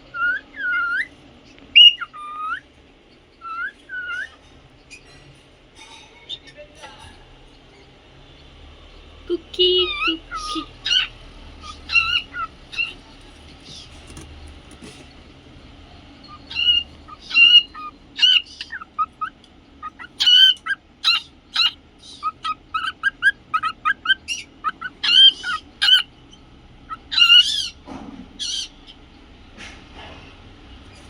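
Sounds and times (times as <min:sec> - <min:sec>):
cockatiels chirping: 0:00.0 - 0:02.8, 0:03.4 - 0:06.7, 0:08.9 - 0:29.9.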